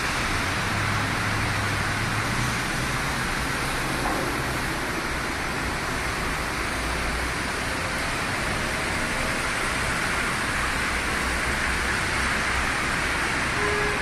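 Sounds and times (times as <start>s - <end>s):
heavy rain on a car: 0.0s - 14.0s
tyres hissing on wet road: 0.0s - 14.0s.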